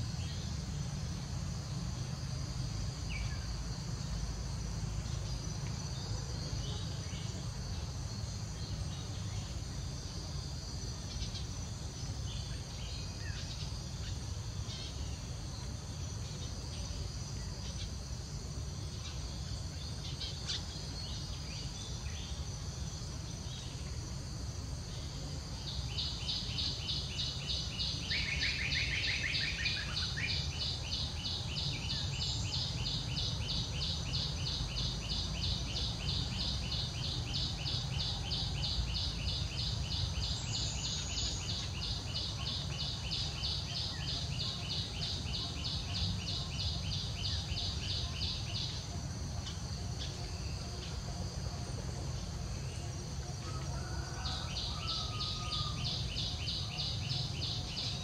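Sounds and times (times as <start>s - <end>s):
lower insect trill: 0.0s - 58.0s.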